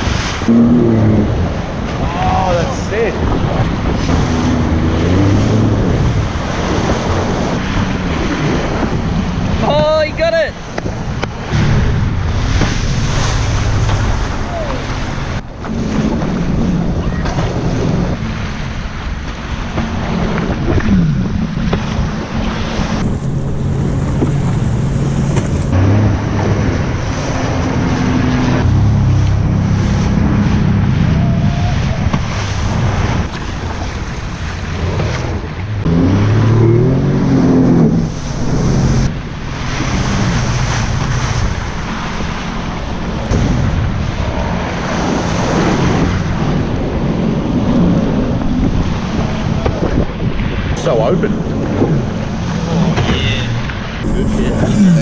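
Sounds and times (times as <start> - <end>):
jet ski engine revving: 0.0 - 9.8, 10.6 - 55.0
surf noise: 0.0 - 55.0
wind buffeting microphone: 0.0 - 55.0.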